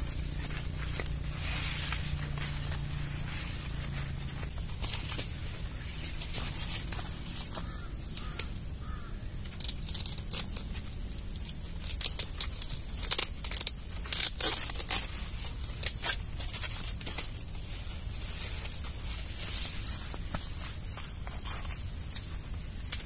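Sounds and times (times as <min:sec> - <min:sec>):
corn husks rustling and snapping: 0:00.0 - 0:23.0.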